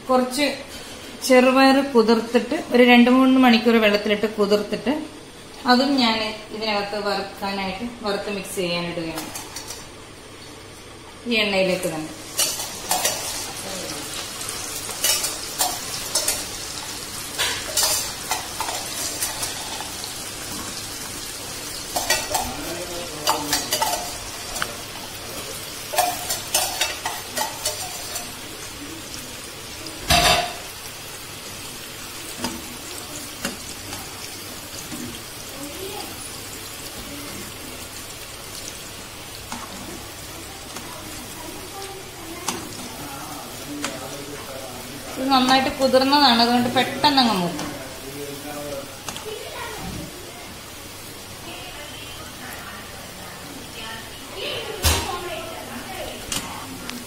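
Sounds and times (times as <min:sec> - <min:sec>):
beans sizzling in oil: 0:00.0 - 0:57.0.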